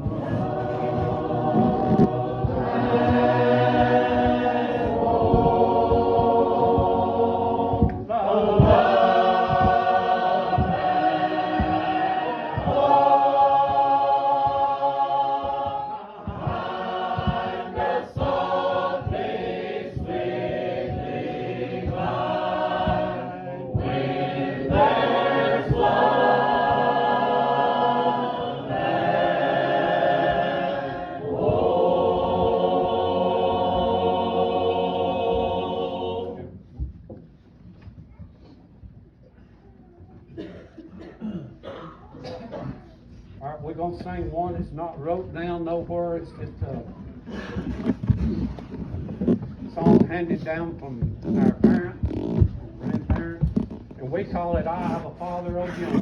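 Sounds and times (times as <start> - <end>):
congregation singing a hymn: 0.0 - 36.9, 46.5 - 56.0.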